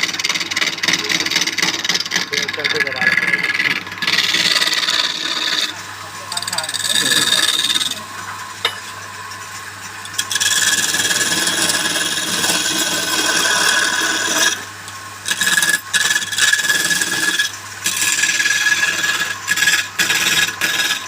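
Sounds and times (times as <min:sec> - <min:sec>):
tool scraping spinning wood: 0:00.0 - 0:21.0
wood lathe whining: 0:00.0 - 0:21.0.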